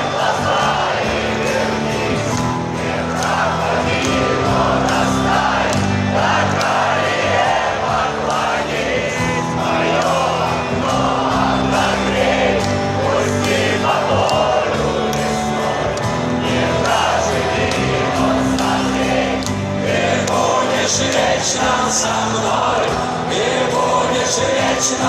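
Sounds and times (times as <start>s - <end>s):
crowd singing and cheering: 0.0s - 25.0s
rock band playing live: 0.0s - 25.0s.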